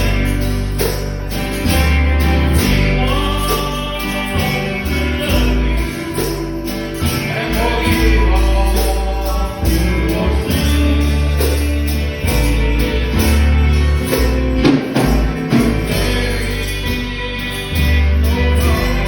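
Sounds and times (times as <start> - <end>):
bass line: 0.0 - 19.0
gospel church music: 0.0 - 19.0
tambourine beat: 0.0 - 19.0.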